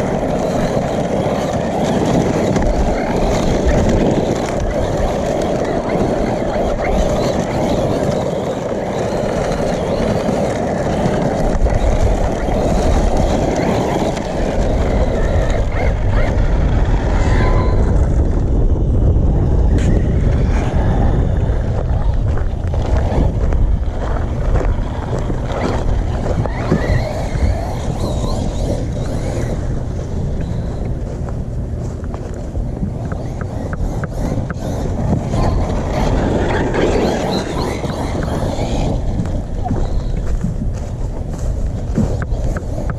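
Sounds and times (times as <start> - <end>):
electric motor whines: 0.0 - 42.9
toy truck low rumble: 0.0 - 42.9.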